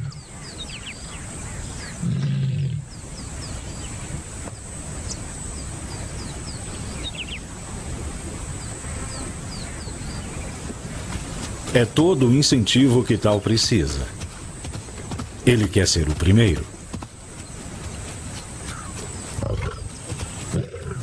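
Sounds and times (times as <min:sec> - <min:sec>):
outdoor background: 0:00.0 - 0:21.0.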